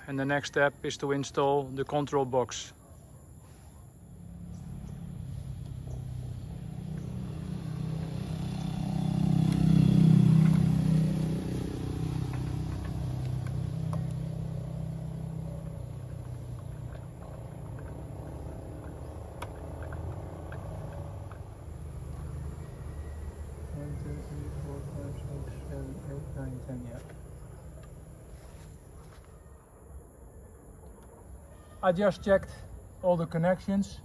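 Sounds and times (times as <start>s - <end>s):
low rumble of passing engine: 3.9s - 31.4s.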